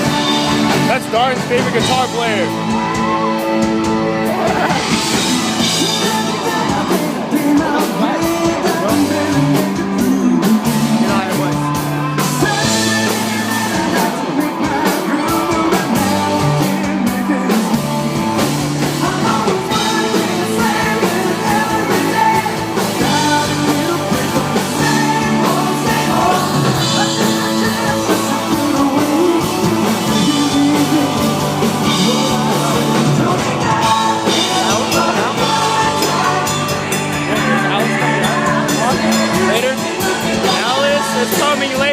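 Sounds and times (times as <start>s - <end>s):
bass guitar: 0.0s - 41.9s
drums: 0.0s - 41.9s
electric guitar: 0.0s - 41.9s
person singing: 4.2s - 41.9s.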